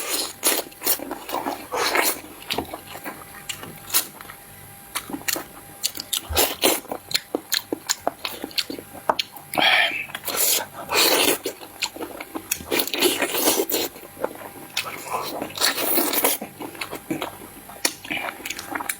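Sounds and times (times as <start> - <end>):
person chewing and smacking food: 0.0 - 18.9.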